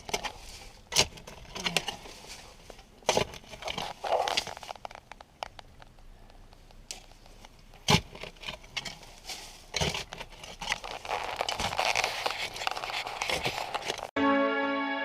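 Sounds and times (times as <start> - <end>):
debris crunching and scraping: 0.0 - 14.1.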